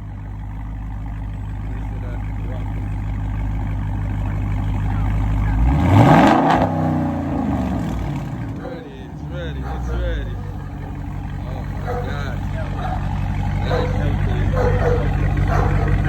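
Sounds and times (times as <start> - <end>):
pickup engine idling: 0.0 - 16.0
engine revving: 1.4 - 16.0.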